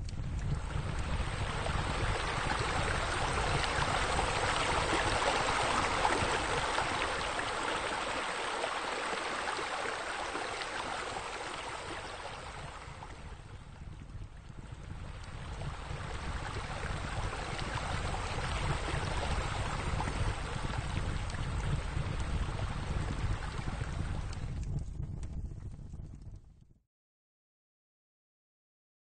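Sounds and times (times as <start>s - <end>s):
water splashing into a spa: 0.0s - 24.4s.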